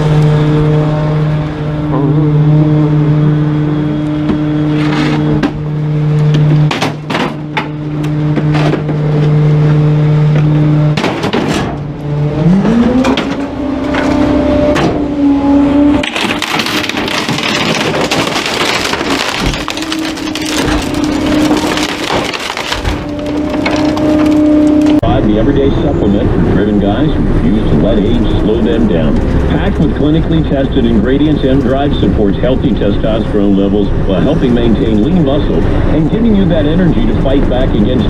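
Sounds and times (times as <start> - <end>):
diesel engine running: 0.0 - 38.0
harsh rough noise: 0.0 - 38.0.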